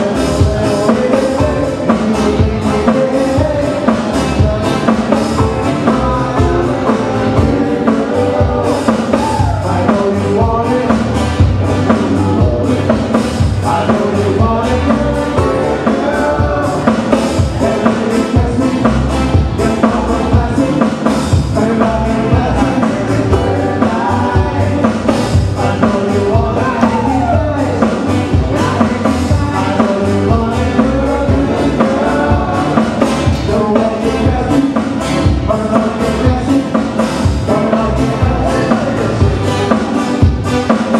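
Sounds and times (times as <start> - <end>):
drum kit beat: 0.0 - 40.9
live band playing: 0.0 - 40.9.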